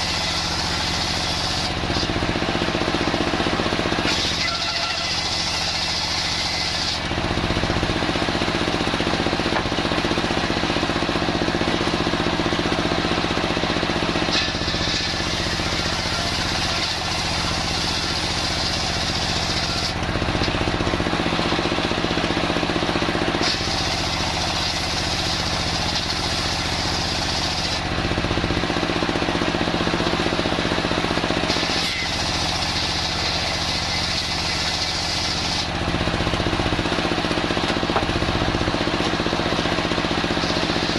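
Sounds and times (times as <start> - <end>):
circular sawmill sawing log: 0.0 - 40.9.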